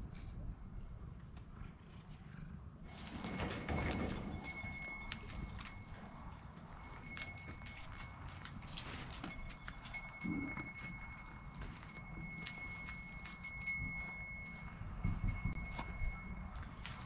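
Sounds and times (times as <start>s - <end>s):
goat hooves clicking on dirt: 2.9s - 17.0s.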